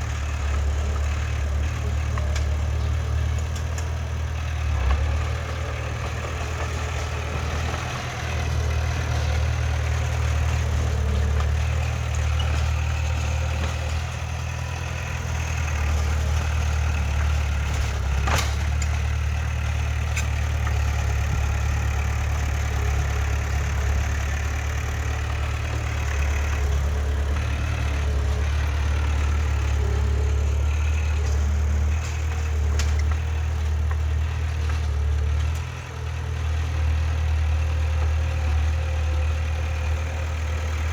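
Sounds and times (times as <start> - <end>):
diesel engine rumbling: 0.0 - 40.9.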